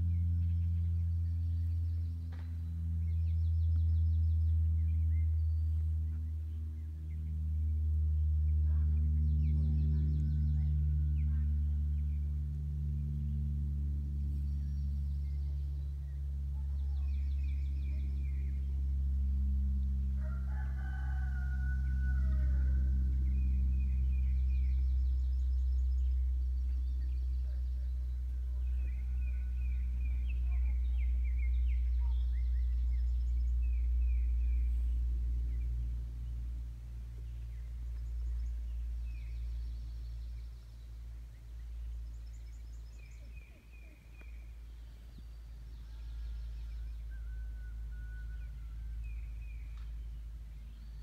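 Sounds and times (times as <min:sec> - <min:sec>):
propeller plane drone overhead: 0:00.0 - 0:51.0
small birds chirping: 0:00.0 - 0:51.0.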